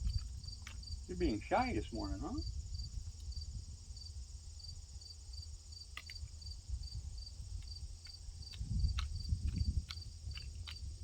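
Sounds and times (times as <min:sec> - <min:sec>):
crickets chirping: 0:00.0 - 0:11.0
high insect drone: 0:00.0 - 0:11.0.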